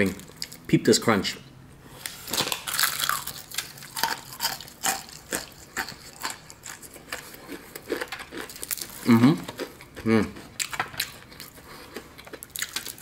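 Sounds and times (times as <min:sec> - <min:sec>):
crispy chicken crunching: 0:02.1 - 0:13.0.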